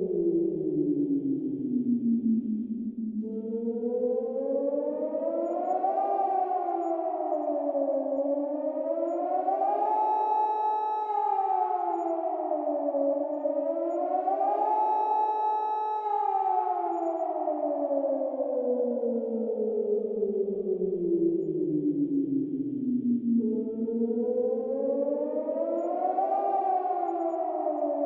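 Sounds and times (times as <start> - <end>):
two-tone warning siren wailing: 0.0 - 28.0.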